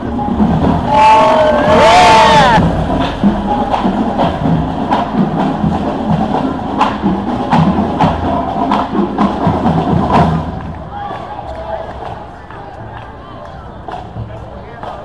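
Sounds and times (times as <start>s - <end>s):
percussion parade music: 0.0s - 15.0s.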